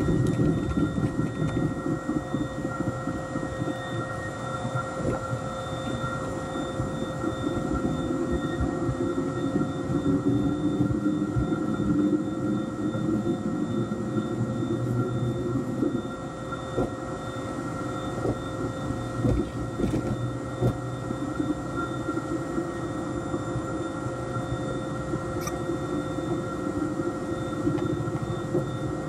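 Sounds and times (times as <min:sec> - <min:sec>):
aircraft cabin rumbling hum: 0:00.0 - 0:29.0
jet engine whine: 0:00.0 - 0:29.0.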